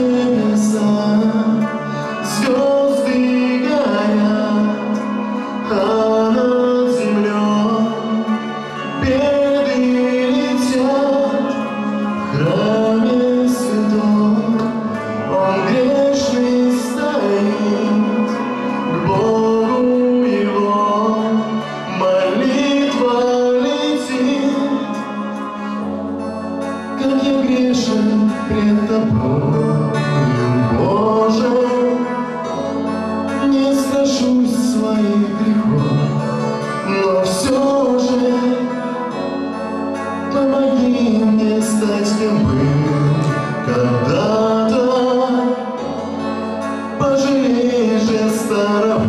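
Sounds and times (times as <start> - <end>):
backing music: 0.0 - 49.0
man singing into a microphone: 0.0 - 49.0.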